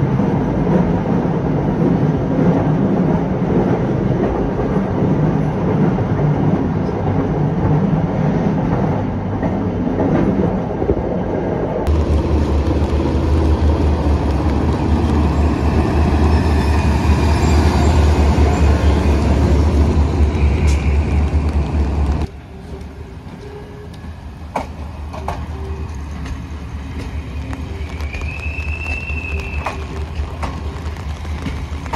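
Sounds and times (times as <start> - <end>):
diesel locomotive engine drone: 0.0 - 31.9
passenger train running on track: 0.0 - 31.9.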